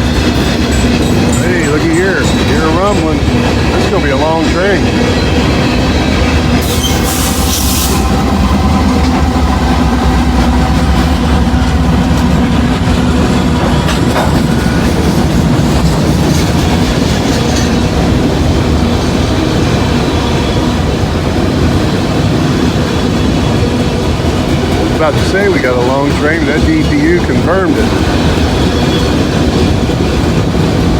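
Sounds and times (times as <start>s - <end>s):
freight train passing: 0.0s - 30.9s
wheels clicking over rail joints: 0.0s - 30.9s.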